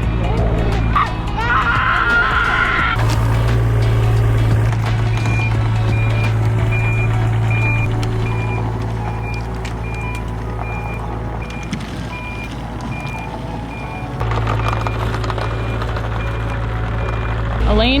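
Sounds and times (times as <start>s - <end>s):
heavy machine engine running: 0.0s - 18.0s
backup alarm beeping: 2.8s - 18.0s.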